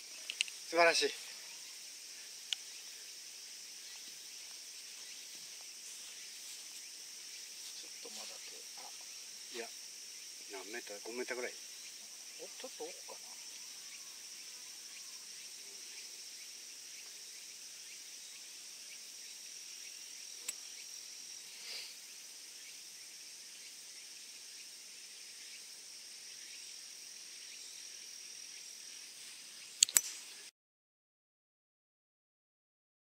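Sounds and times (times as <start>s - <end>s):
insects chirring: 0.0s - 30.5s.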